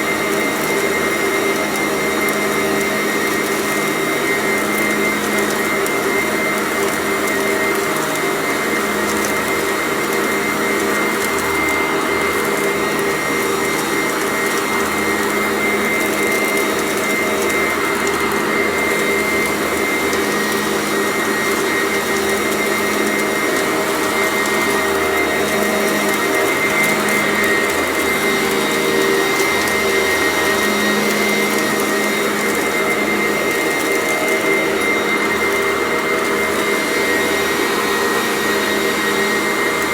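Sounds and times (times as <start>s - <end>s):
vacuum cleaner running: 0.0s - 39.9s
vacuum sucking up crunchy debris: 0.0s - 39.9s.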